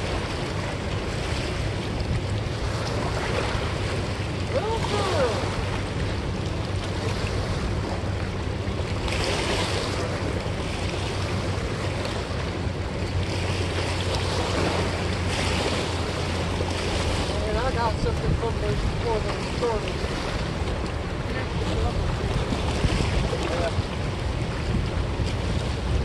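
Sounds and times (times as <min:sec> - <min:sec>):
river water lapping against bank: 0:00.0 - 0:26.0
wind on microphone: 0:00.0 - 0:26.0.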